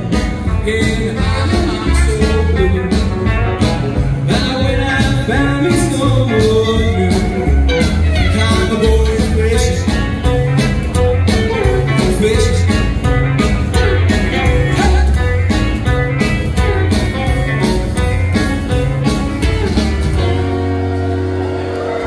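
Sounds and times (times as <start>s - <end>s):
live rockabilly band playing: 0.0s - 22.0s.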